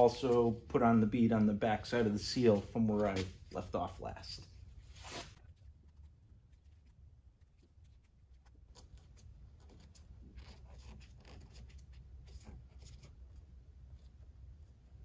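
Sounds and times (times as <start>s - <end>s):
rubber strip rustling and scraping: 0.0s - 15.0s.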